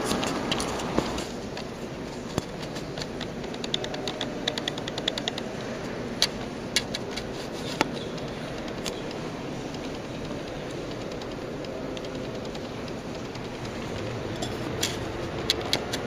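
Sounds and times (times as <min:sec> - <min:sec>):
sharp clicks: 0:00.0 - 0:16.0.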